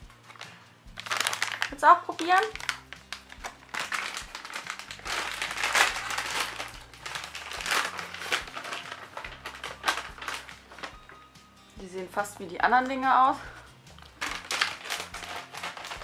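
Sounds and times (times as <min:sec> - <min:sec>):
plastic pouch crinkling: 0:00.0 - 0:11.2, 0:13.4 - 0:16.0
soft background music: 0:00.0 - 0:16.0.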